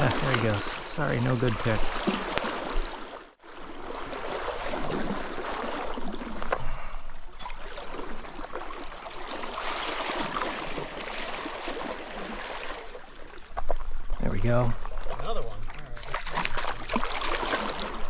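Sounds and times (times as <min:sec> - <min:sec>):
stream water flowing: 0:00.0 - 0:18.0.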